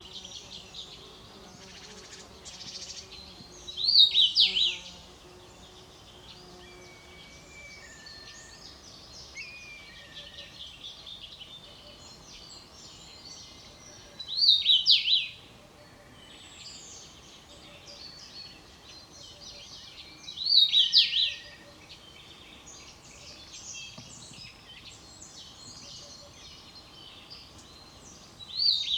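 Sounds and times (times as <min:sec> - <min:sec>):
background chorus of birds chirping: 0:00.0 - 0:28.9
songbird singing loud phrase: 0:00.0 - 0:28.9.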